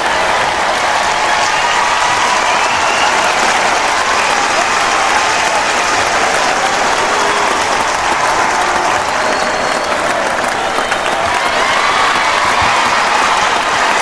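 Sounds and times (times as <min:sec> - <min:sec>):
cheers and shouts: 0:00.0 - 0:14.0
crowd applauding: 0:00.0 - 0:14.0.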